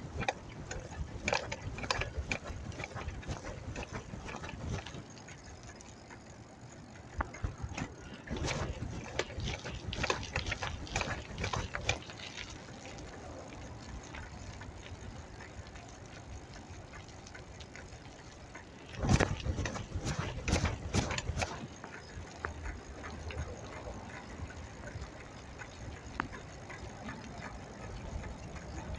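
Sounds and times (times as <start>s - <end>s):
bicycle clicks and rattles: 0.0s - 28.9s
road and wind noise: 0.0s - 28.9s.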